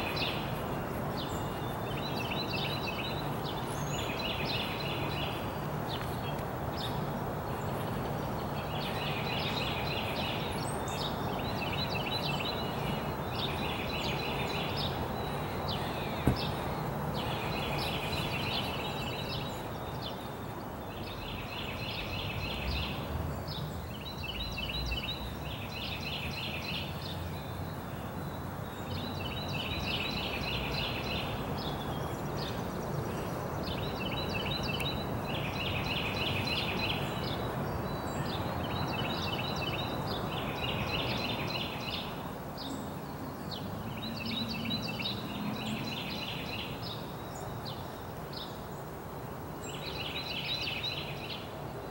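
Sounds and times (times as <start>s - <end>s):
outdoor background noise: 0.0s - 51.9s
songbird singing: 0.0s - 51.9s.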